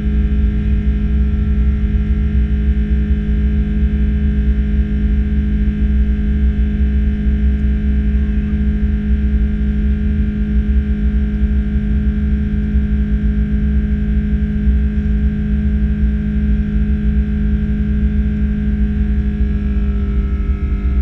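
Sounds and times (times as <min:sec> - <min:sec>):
aircraft engines droning in cabin: 0:00.0 - 0:21.0.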